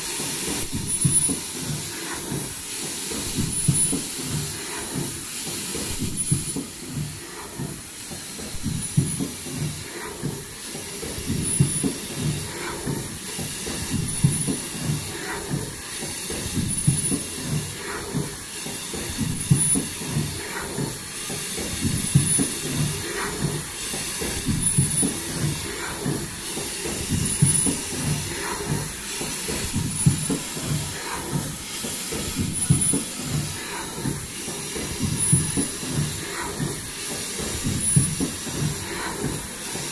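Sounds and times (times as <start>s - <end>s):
rapid mechanical clatter: 0.0s - 39.9s.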